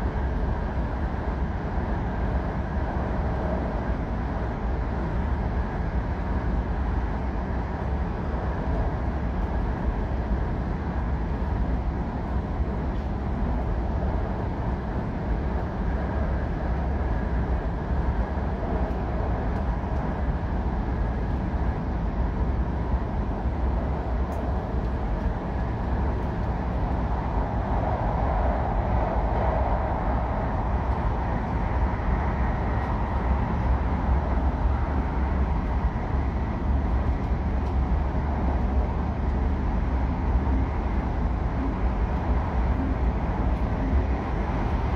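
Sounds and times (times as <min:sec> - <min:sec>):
train cabin rumble and hiss: 0:00.0 - 0:44.9.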